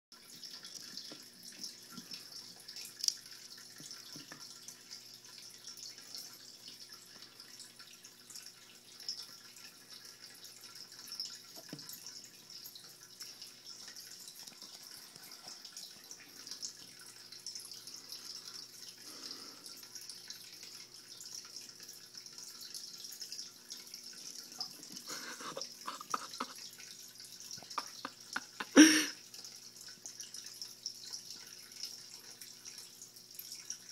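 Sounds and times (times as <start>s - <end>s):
water trickling and dripping: 0.1s - 33.9s.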